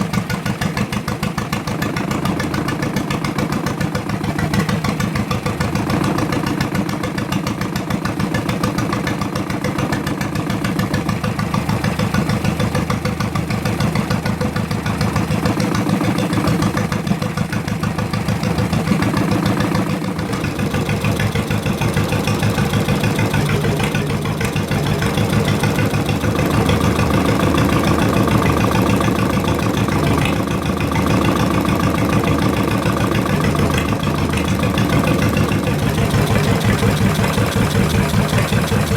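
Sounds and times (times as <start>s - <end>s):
two-cylinder boat motor running: 0.0s - 38.9s.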